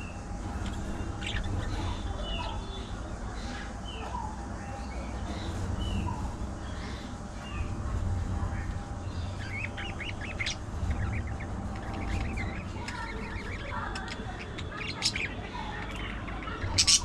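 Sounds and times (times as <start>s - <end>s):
budgies chirping: 0.0s - 17.0s
low background rumble: 0.0s - 17.0s.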